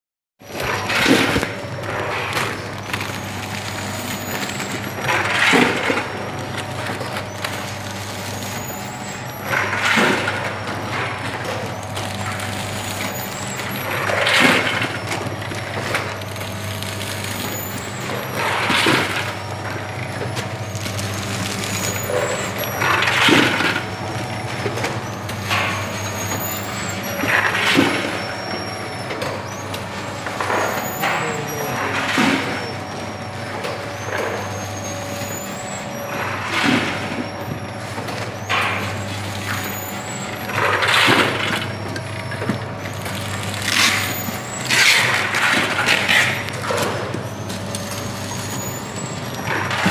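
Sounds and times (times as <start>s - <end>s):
machine humming: 0.4s - 49.9s.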